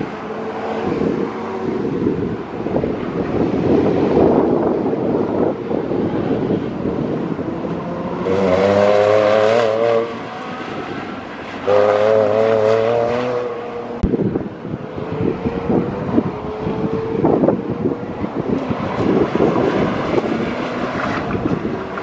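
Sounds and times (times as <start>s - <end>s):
car engine at high revs: 0.0s - 22.0s
wind buffeting microphone: 0.0s - 22.0s.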